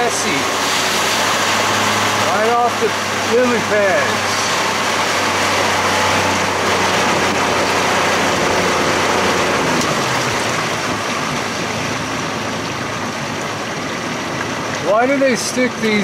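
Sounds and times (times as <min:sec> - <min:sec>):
hiss of wind and water: 0:00.0 - 0:16.0
outboard motor running slowly: 0:00.2 - 0:16.0.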